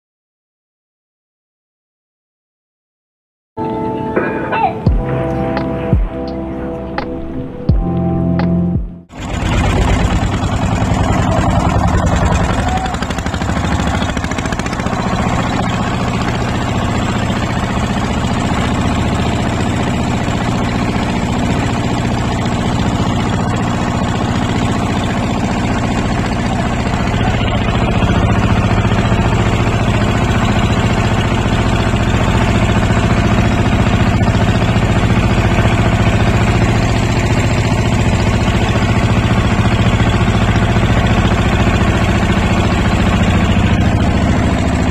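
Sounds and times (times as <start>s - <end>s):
boat engine running: 8.8s - 44.9s.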